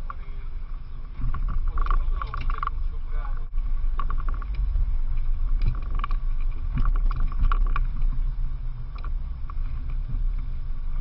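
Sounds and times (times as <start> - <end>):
boat motor rumble: 0.0 - 11.0
wind and water noise: 0.0 - 11.0.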